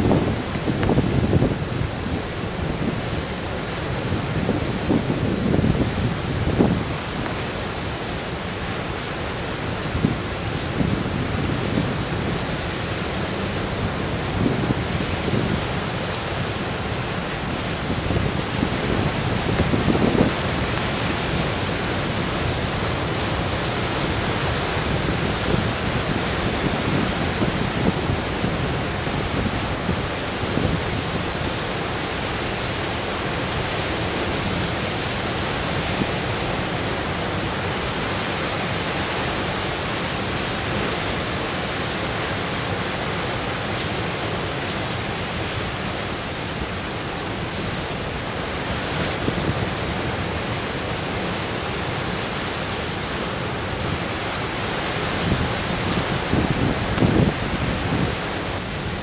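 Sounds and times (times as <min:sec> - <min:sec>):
storm waves breaking on shore: 0:00.0 - 0:59.0.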